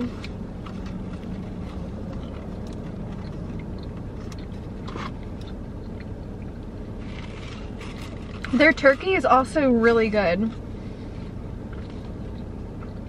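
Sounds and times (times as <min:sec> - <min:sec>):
person chewing: 0:00.0 - 0:08.5, 0:10.5 - 0:13.0
car cabin hum: 0:00.0 - 0:13.0.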